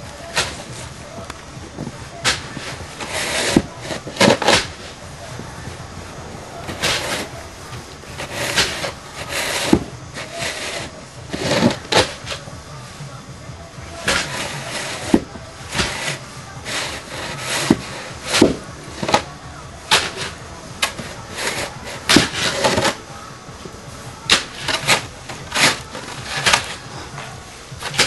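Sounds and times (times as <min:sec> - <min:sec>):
snow shovel scraping snow: 0:00.0 - 0:28.0.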